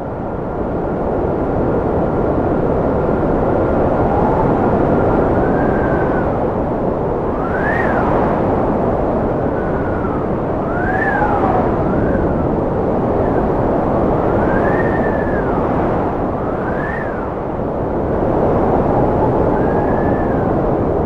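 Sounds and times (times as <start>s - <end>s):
strong wind whistling: 0.0s - 21.0s.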